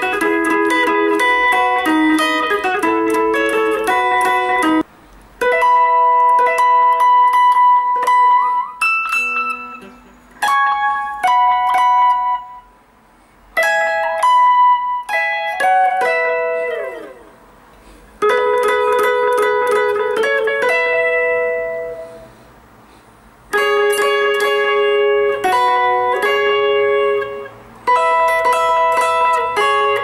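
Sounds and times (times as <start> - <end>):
electric guitar lead line: 0.0 - 12.8, 13.6 - 22.4, 23.5 - 30.0.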